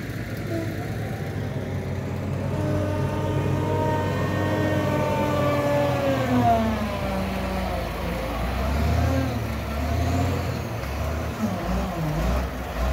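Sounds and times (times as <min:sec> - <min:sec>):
wheel loader diesel engine: 0:00.0 - 0:12.9.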